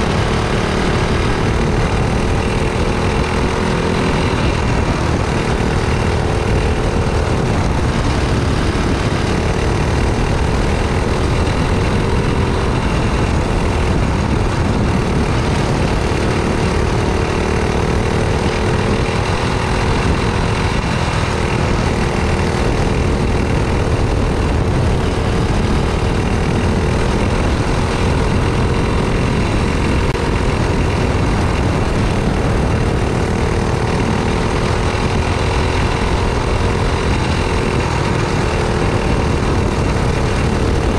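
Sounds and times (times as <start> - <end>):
go-kart engine running: 0.0 - 40.9
wind and road noise: 0.0 - 40.9.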